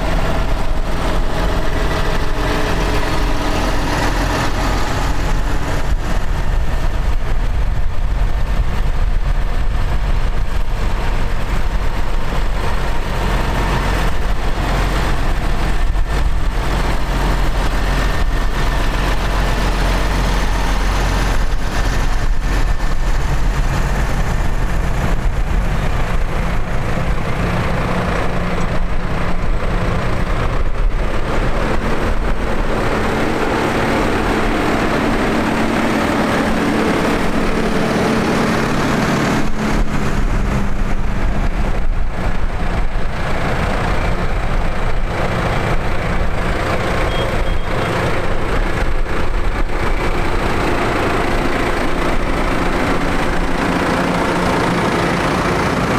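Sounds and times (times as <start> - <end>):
tractor diesel engines driving past: 0.0 - 55.9.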